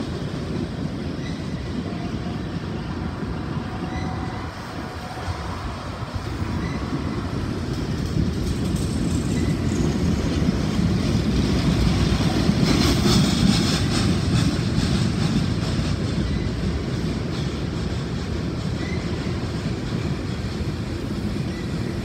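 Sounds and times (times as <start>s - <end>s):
train clicking and clatter: 0.0s - 22.0s
train wheels rumbling on rails: 0.0s - 22.0s.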